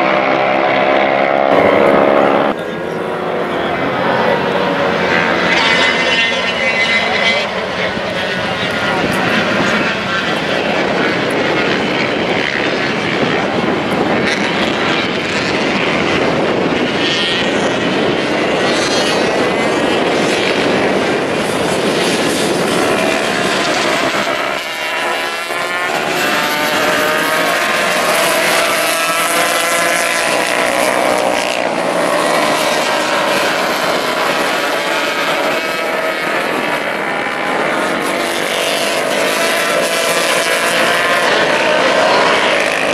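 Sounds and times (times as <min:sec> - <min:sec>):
racing motorcycle engines revving: 0:00.0 - 0:42.9.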